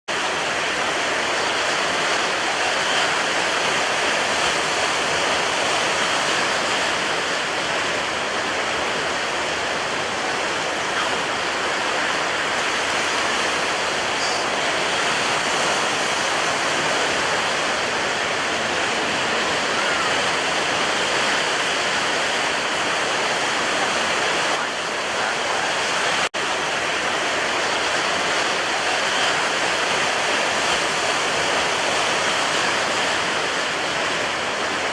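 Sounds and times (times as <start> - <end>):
water rushing: 0.1 - 34.9.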